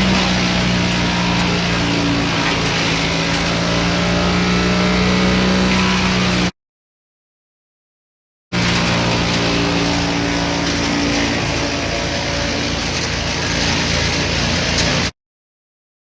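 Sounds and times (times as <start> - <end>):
wood chipper engine running: 0.0 - 6.5, 8.6 - 15.1.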